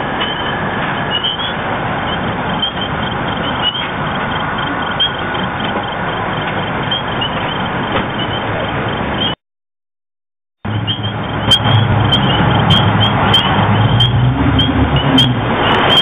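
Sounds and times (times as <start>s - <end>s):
muffled alarm siren: 0.1s - 9.4s, 10.7s - 16.0s.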